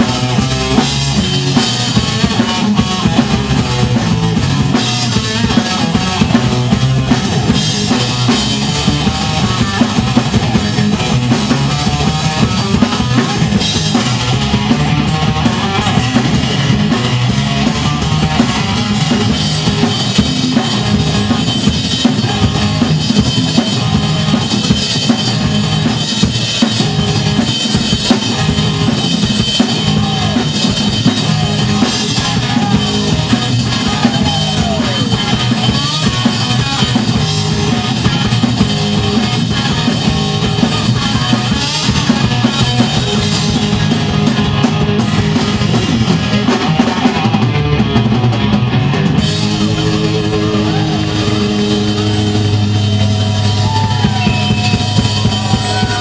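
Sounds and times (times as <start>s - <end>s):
drum kit playing: 0.0s - 56.0s
electric guitar: 0.0s - 56.0s.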